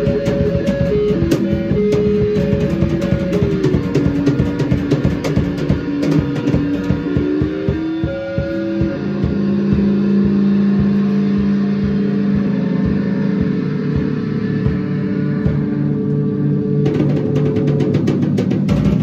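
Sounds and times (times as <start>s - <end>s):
drum kit: 0.0s - 19.0s
electric bass guitar: 0.0s - 19.0s.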